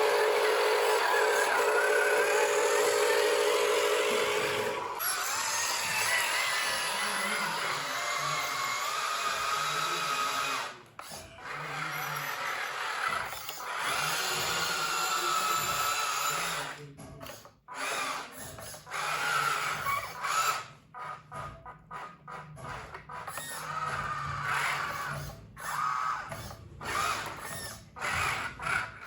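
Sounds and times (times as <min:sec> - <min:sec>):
small electric motors whining: 0:00.0 - 0:29.0.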